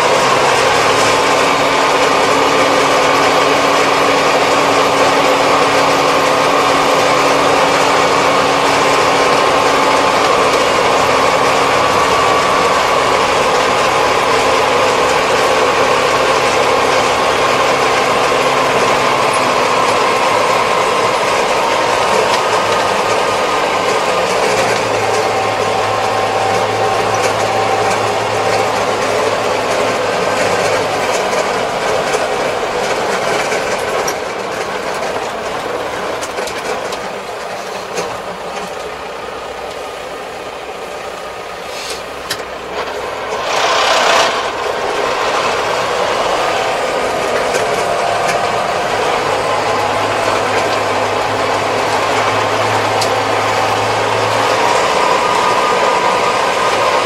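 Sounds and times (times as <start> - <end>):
steady whine: 0.0 - 57.0
tractor engine: 0.0 - 57.0.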